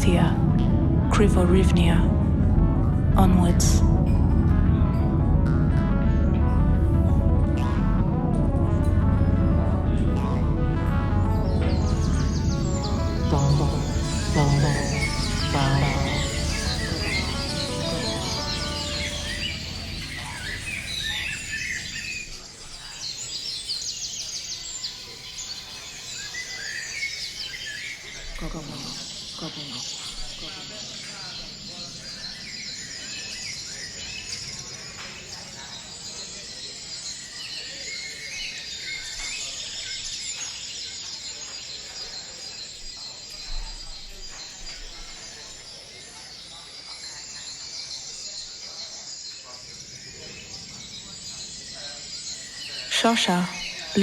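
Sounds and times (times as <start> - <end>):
birds chirping and singing: 3.4 - 54.0.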